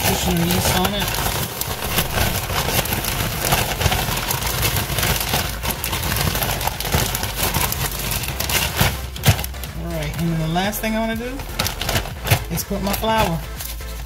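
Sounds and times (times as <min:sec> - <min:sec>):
plastic bag crinkling while shaken: 0:00.0 - 0:14.0.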